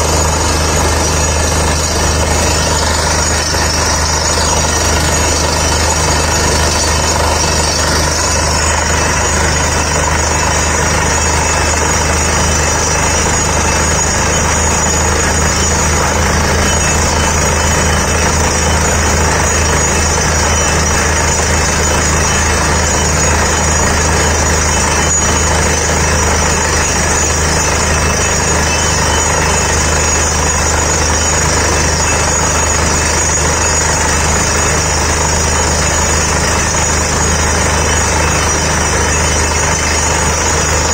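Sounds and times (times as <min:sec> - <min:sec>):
drilling rig mechanical drone: 0:00.0 - 0:40.9.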